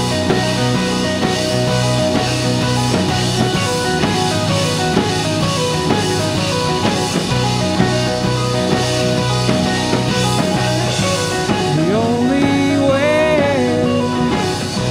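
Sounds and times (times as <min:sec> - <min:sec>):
instrumental rock music: 0:00.0 - 0:14.9.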